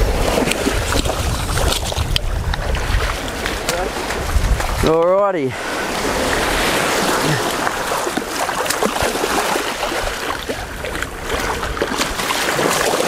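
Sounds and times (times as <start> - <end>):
person wading in water: 0.0 - 13.0
small waves lapping: 0.0 - 13.0
water splashing and churning: 0.0 - 13.0.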